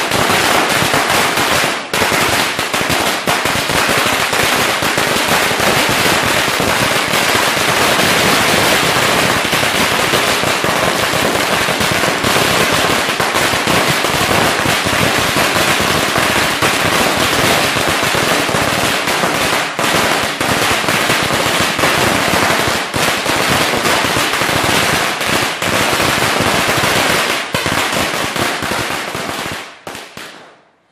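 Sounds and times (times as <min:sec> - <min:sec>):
rapid firecracker bangs: 0:00.0 - 0:30.6.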